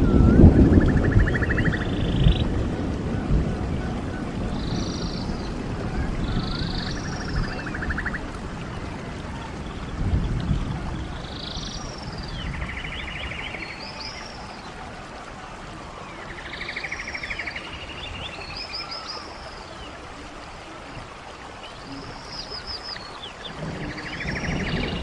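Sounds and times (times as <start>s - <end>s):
birds singing: 0.0s - 25.0s
stream rushing: 0.0s - 25.0s.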